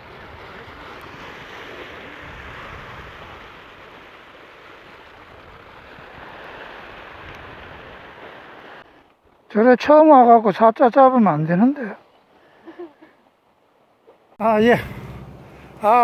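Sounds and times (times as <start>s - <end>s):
ocean surf over rocks: 0.0s - 13.0s, 13.7s - 16.0s.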